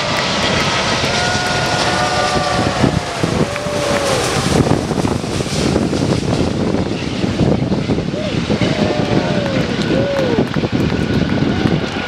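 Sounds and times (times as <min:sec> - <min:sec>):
deep rumble: 0:00.0 - 0:12.0
jet engine whine: 0:00.0 - 0:12.0
wind on microphone: 0:00.0 - 0:12.0.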